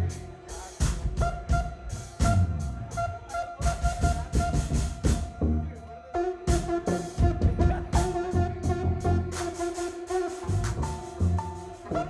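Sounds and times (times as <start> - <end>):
drum kit groove: 0.0 - 5.5, 6.4 - 12.0
electric bass: 0.0 - 5.9, 6.6 - 12.0.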